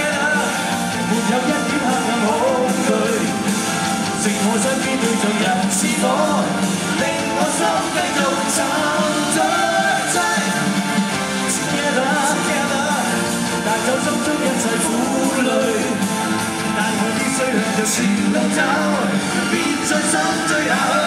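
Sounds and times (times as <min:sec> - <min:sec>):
lead vocalist singing: 0:00.0 - 0:21.0
live rock band playing: 0:00.0 - 0:21.0.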